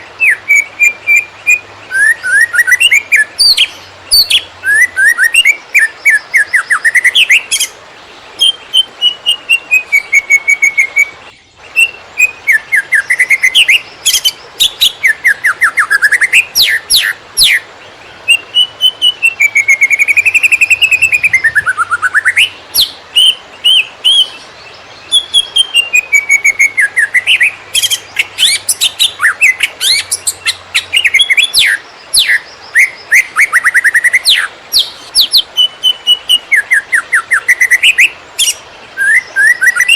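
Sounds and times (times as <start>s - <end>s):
bird singing fast trills: 0.0s - 39.9s.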